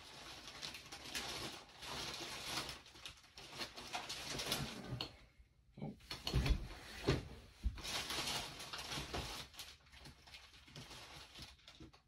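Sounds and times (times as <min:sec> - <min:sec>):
rustling: 0:00.0 - 0:05.1, 0:06.2 - 0:12.0.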